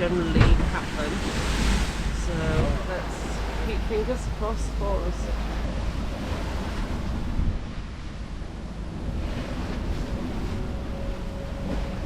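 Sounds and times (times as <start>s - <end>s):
rough sea water rushing: 0.0s - 12.0s
wind buffeting microphone: 0.0s - 12.0s.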